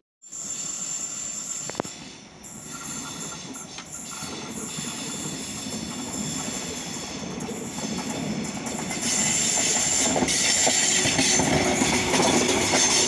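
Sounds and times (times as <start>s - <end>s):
train wheels rumbling on rails: 0.3s - 13.0s.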